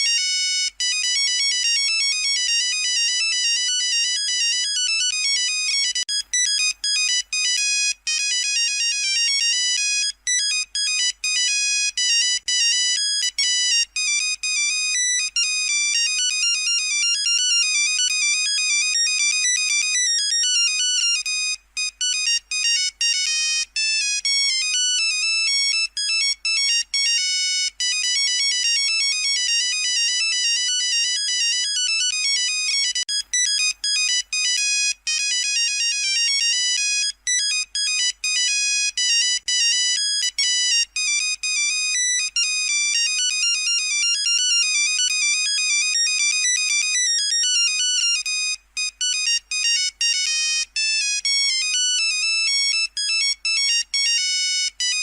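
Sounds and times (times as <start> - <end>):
phone ringtone beeping melody: 0.0 - 55.0.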